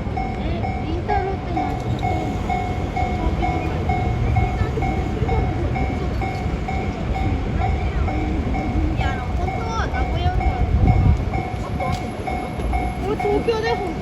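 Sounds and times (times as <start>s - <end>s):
freight train rumbling: 0.0s - 14.0s
level crossing electronic bell: 0.0s - 14.0s.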